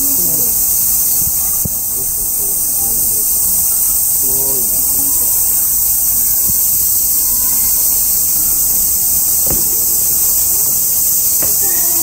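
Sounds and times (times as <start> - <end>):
cicada chorus drone: 0.0 - 12.0
faint distant voices: 0.0 - 12.0.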